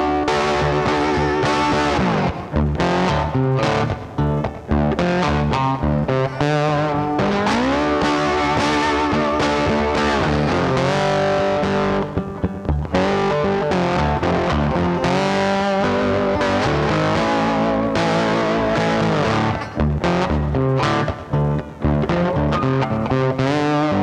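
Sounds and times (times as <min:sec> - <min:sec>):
bass: 0:00.0 - 0:24.0
distorted electric guitar music: 0:00.0 - 0:24.0.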